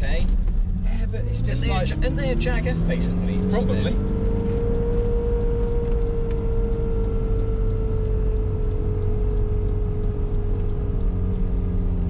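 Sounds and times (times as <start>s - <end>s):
car engine cruising: 0.0s - 12.0s
faint regular ticking: 0.0s - 12.0s
road rumble: 0.0s - 12.0s.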